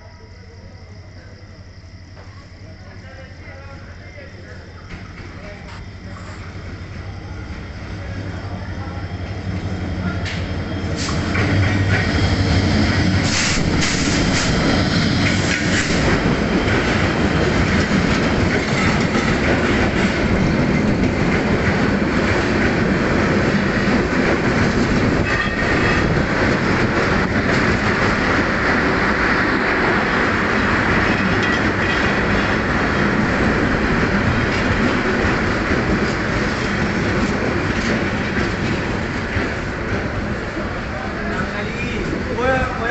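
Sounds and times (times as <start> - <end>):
wheels rumbling on rail: 0.0 - 42.9.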